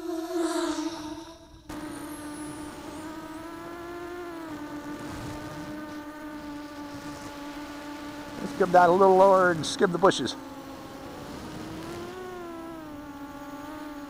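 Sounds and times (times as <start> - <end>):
drone high-pitched buzzing hum: 0.0 - 14.0.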